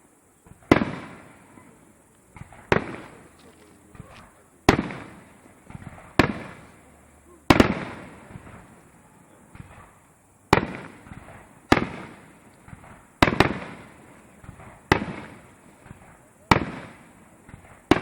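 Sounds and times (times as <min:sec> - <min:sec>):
firework shells bursting: 0:00.4 - 0:18.0.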